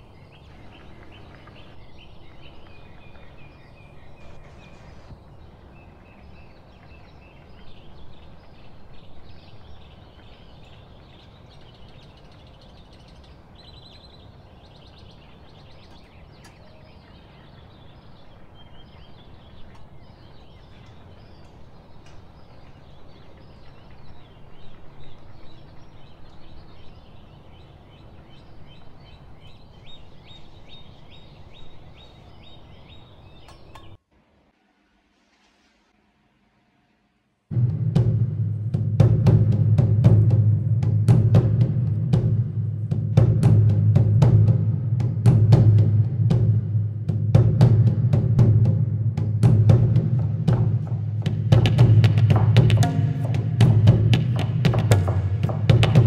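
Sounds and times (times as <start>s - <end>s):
birds chirping: 0.0s - 34.0s, 38.7s - 56.0s.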